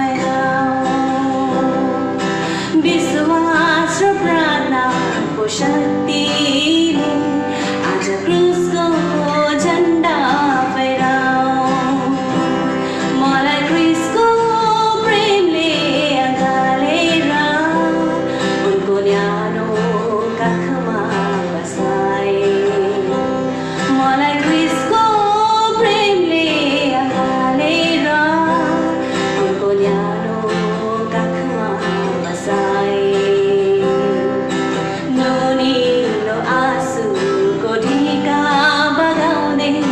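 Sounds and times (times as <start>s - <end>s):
acoustic guitar: 0.0s - 39.9s
woman singing a worship song: 0.0s - 39.9s.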